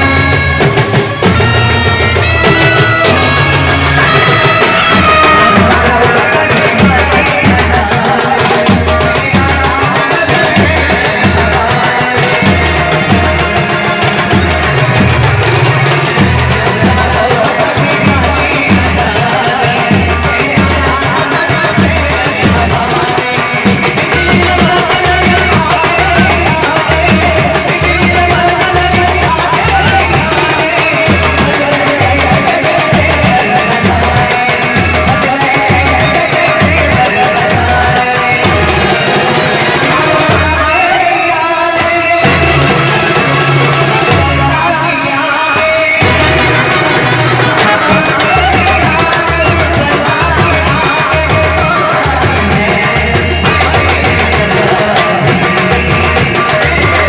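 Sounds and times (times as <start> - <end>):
amplified banjo melody: 0.0 - 57.0
person singing: 0.0 - 57.0
steady drum beat: 0.0 - 57.0.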